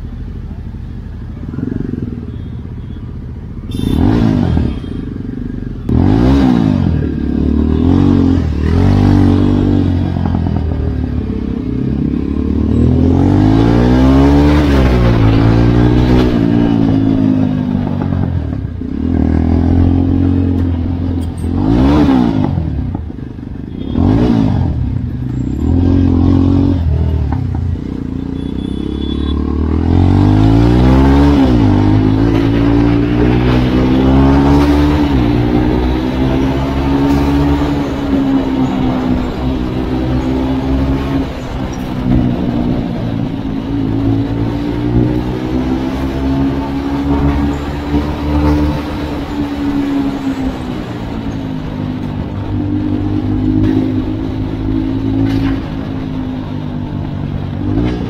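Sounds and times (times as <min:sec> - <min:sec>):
motorcycle engine accelerating: 0:03.8 - 0:58.0.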